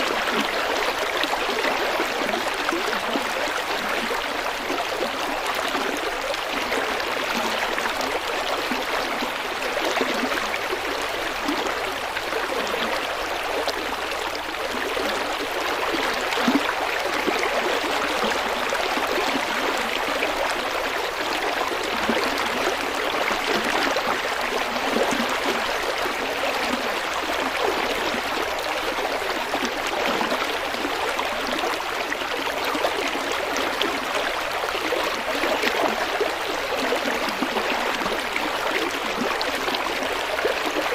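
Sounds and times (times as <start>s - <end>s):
river water babbling over rocks: 0.0s - 40.9s.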